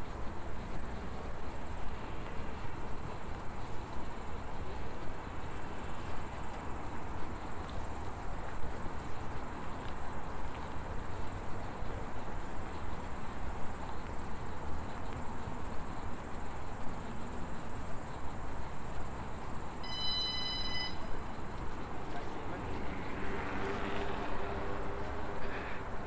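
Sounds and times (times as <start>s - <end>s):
insects chirring: 0.0s - 25.1s.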